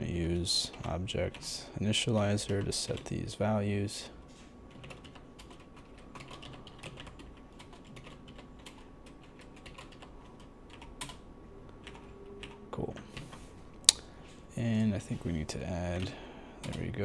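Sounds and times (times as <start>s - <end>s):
faint keyboard typing: 0.2s - 3.3s, 4.7s - 13.4s, 14.7s - 17.0s.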